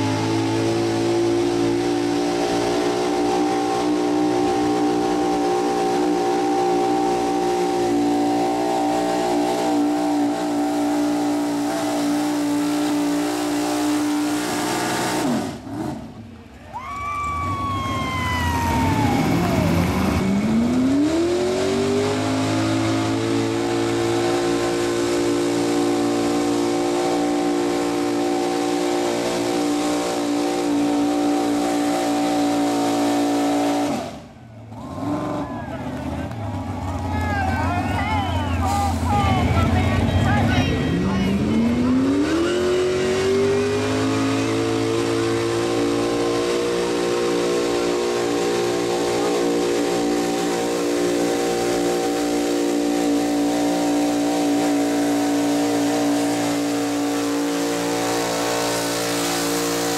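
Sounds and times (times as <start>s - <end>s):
truck engine at high revs: 0.0s - 16.6s, 17.4s - 59.9s.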